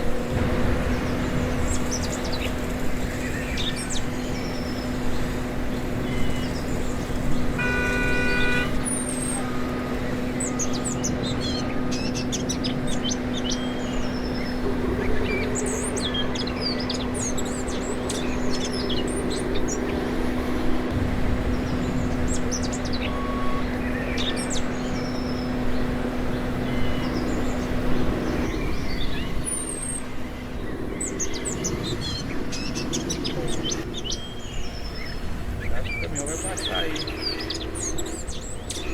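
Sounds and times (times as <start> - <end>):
small birds chirping: 0.0 - 38.9
steady low hum: 0.0 - 38.9.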